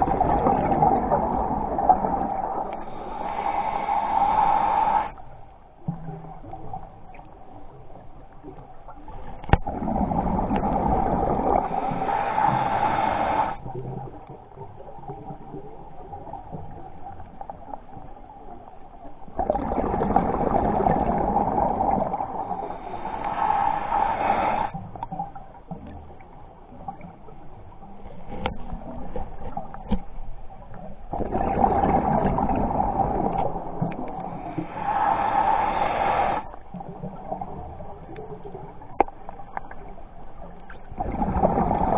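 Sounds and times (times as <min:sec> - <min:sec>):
underwater bubbles gurgling: 0:00.0 - 0:41.9.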